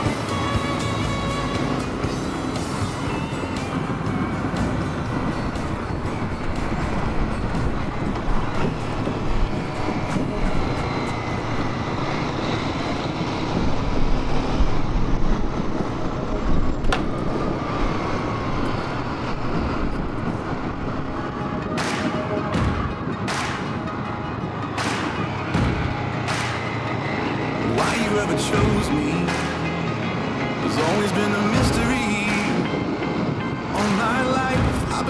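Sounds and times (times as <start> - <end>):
motorcycle engine rumble: 0.0 - 33.8
wind noise: 0.0 - 35.0.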